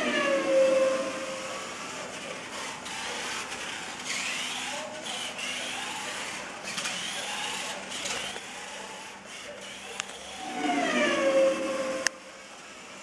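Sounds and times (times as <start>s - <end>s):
toy car motor whining: 0.0s - 12.9s.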